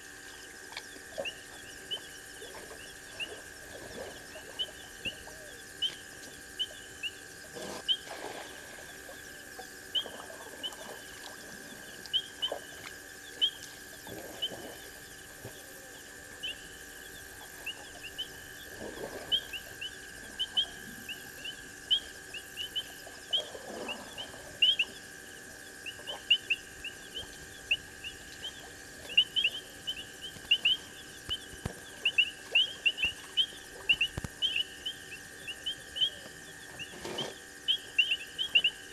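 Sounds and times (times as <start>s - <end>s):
steady high drone: 0.0s - 38.9s.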